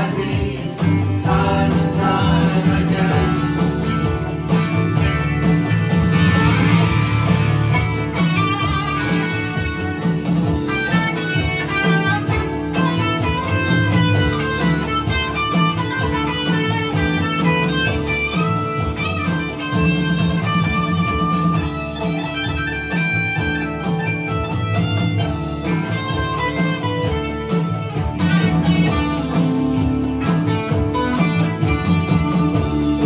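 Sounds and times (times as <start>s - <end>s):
bass guitar: 0.0s - 33.0s
electric guitars: 0.0s - 33.0s
stage piano keyboard: 0.0s - 33.0s.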